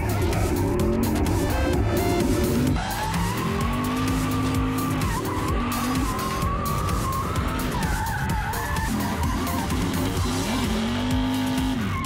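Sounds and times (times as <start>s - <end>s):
background music: 0.0s - 12.0s
car engine running hard: 0.0s - 12.0s
tyres squealing: 2.0s - 12.0s.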